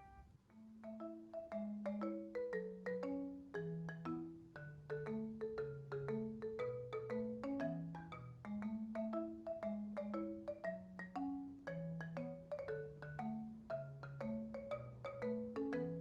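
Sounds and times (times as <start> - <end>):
light melody of struck notes: 0.0 - 16.0.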